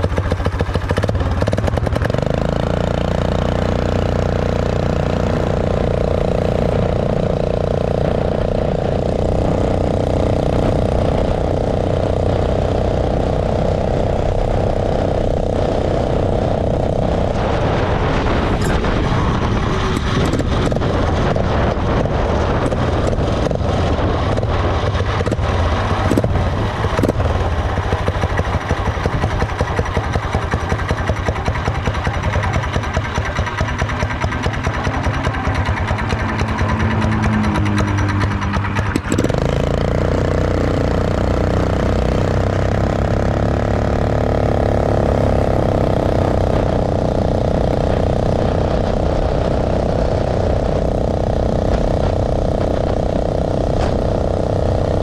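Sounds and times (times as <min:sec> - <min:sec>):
motorized bicycle engine running: 0:00.0 - 0:55.0.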